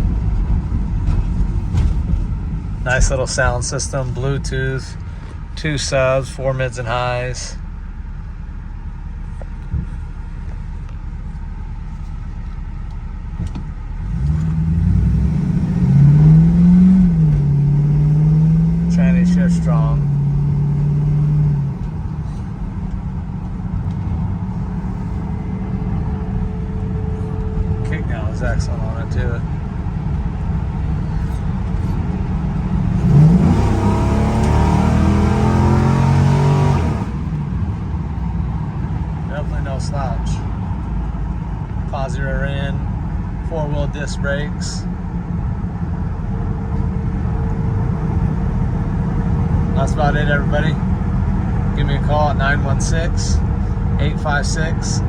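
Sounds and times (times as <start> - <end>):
car engine rumbling and accelerating: 0.0 - 55.0.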